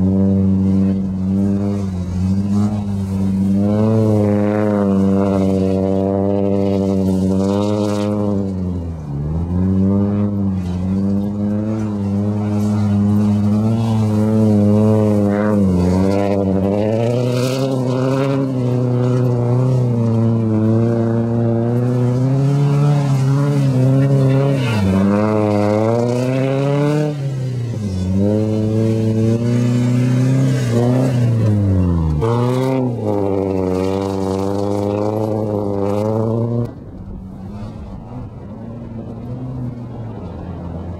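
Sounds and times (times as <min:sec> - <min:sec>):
car engine revving hard: 0:00.0 - 0:40.4.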